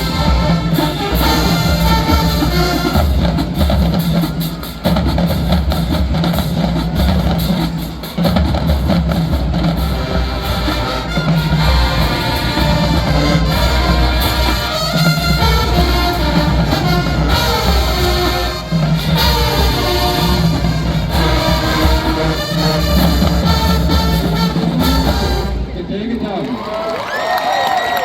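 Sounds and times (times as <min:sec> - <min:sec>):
brass playing: 0:00.0 - 0:25.9
pounding drum beat: 0:00.0 - 0:26.1.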